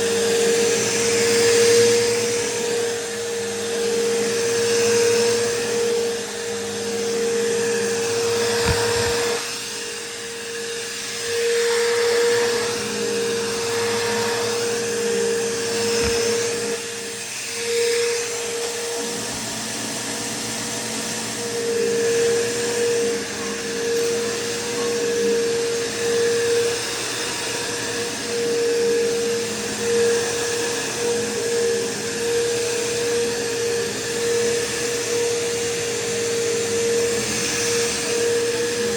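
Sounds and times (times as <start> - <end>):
vacuum cleaner running over carpet: 0.0 - 38.9.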